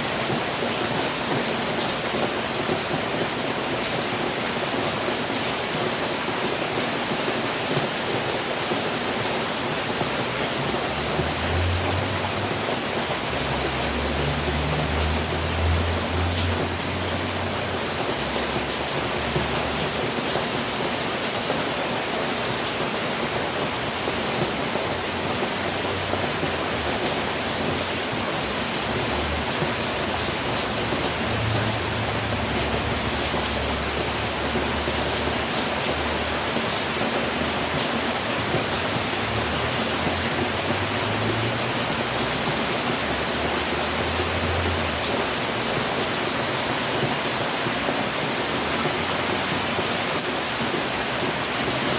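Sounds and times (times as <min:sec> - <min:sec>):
rain on a roof: 0:00.0 - 0:51.9.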